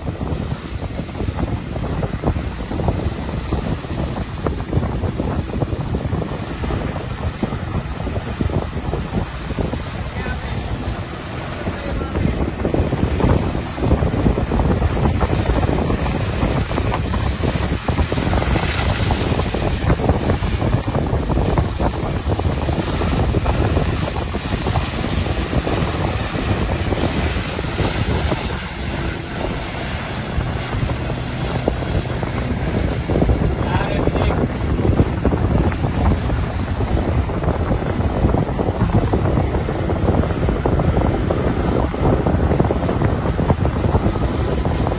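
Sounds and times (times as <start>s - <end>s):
jet ski engine running: 0.0s - 44.9s
water jets spraying: 0.0s - 44.9s
wind buffeting microphone: 0.0s - 44.9s.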